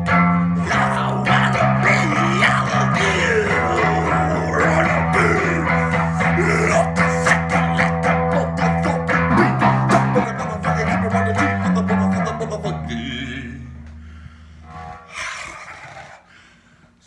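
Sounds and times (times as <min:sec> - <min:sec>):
electric guitar strumming: 0:00.0 - 0:14.1
sustained bass guitar notes: 0:00.0 - 0:15.1.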